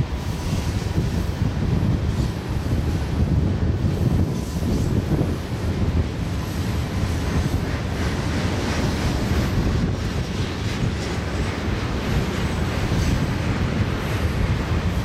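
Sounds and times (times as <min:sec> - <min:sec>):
freight train wheels rolling: 0:00.0 - 0:15.0
wind buffeting microphone: 0:00.0 - 0:15.0.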